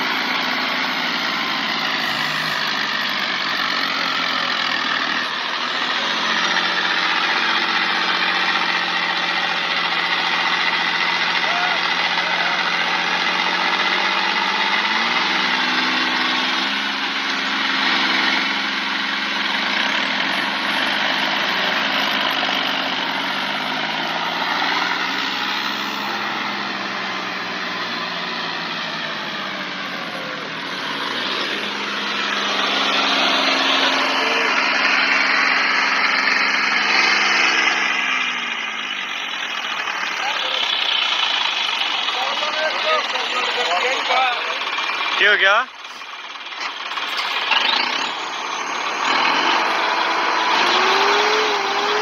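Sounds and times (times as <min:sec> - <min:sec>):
diesel tractor engines labouring: 0:00.0 - 0:52.0.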